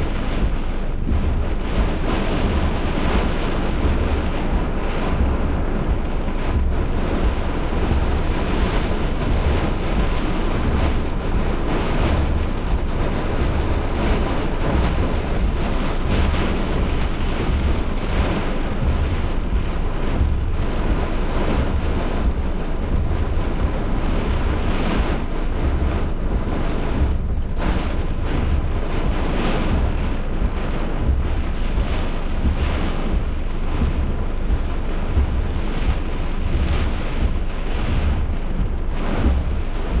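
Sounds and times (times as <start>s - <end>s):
strong wind buffeting microphone: 0.0s - 40.0s.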